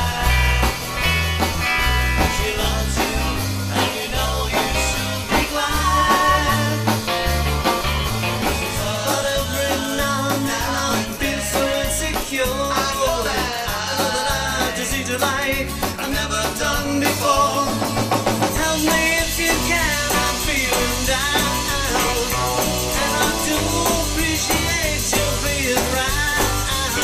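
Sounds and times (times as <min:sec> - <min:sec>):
lead singer: 0:00.0 - 0:07.4, 0:08.4 - 0:27.0
bass guitar: 0:00.0 - 0:27.0
drums: 0:00.0 - 0:27.0
electric guitars: 0:00.0 - 0:27.0.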